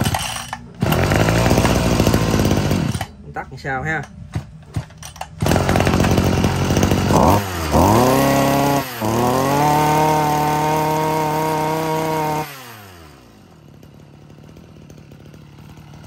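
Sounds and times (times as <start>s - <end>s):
brush-cutter engine revving: 0.0s - 3.6s, 4.3s - 16.0s.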